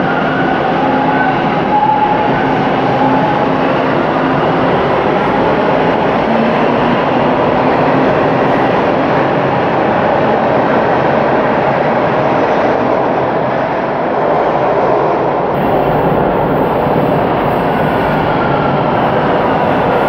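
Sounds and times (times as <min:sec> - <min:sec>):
subway train wheels on rails: 0:00.0 - 0:20.0.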